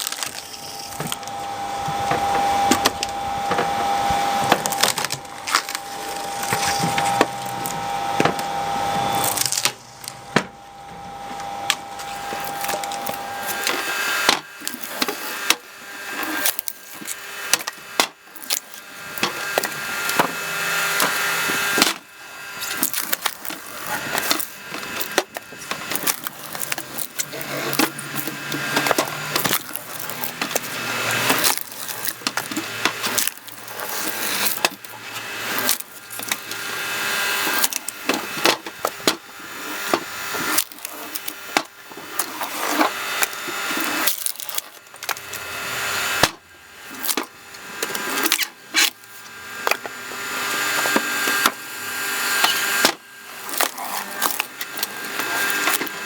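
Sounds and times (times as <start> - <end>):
logs creaking and splintering: 0.0 - 10.5, 11.6 - 56.0.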